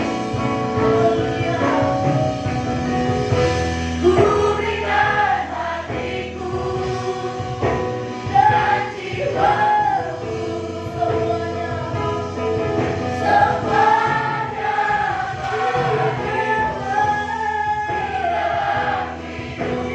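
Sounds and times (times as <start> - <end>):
choir singing a worship song: 0.0 - 19.9
instrumental accompaniment: 0.0 - 19.9.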